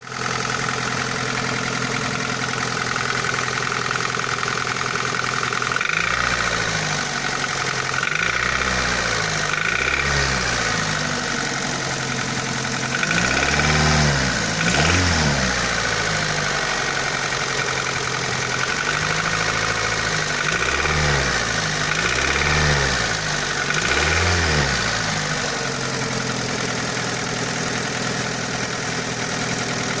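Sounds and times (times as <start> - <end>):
engine knocking: 0.0 - 30.0
car engine revving and idling: 0.1 - 30.0.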